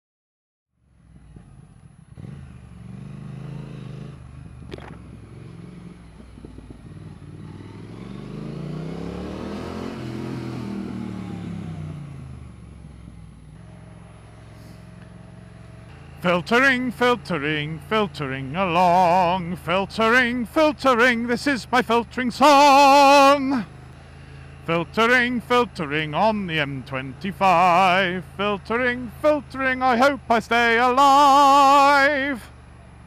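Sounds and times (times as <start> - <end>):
motorcycle engine accelerating: 0.8 - 33.0.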